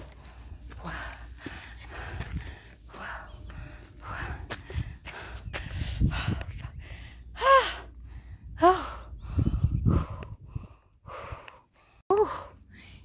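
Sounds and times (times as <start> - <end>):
person breathing heavily: 0.0 - 13.0.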